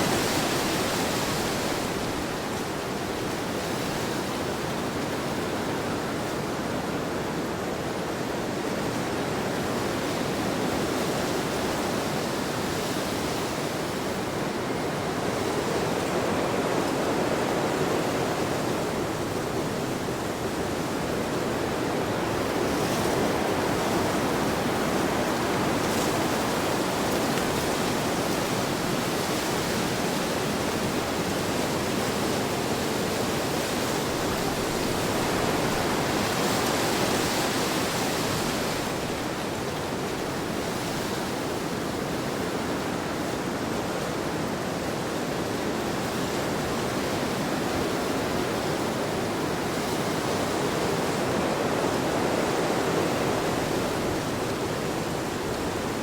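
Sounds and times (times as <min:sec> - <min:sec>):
heavy wind blowing: 0:00.0 - 0:56.0.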